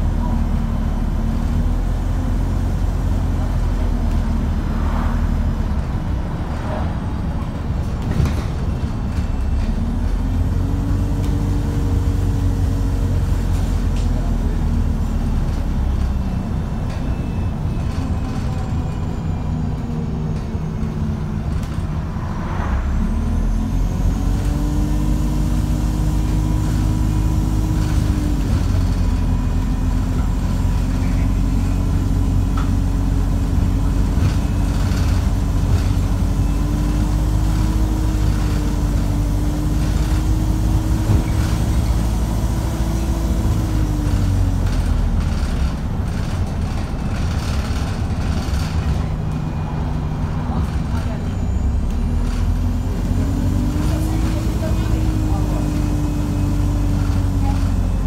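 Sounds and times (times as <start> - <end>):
bus engine running under load: 0.0 - 58.0.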